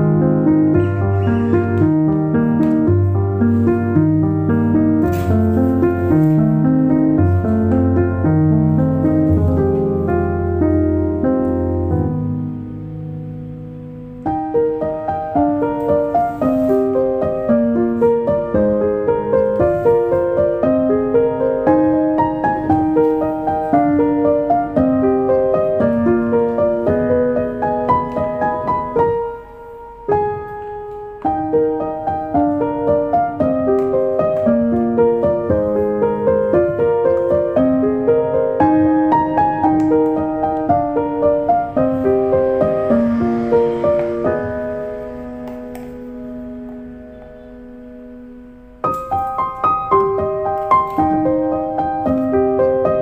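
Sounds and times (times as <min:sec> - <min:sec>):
piano music: 0:00.0 - 0:53.0.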